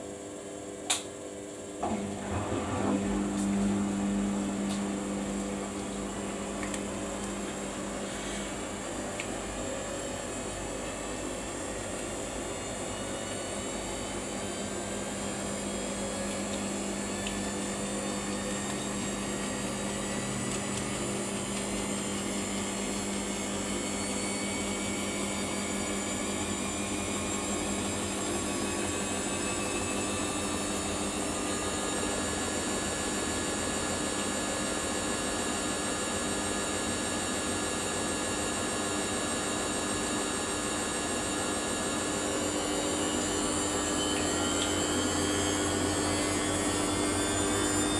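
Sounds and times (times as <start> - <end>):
washing machine drum spinning up: 1.7 - 47.9.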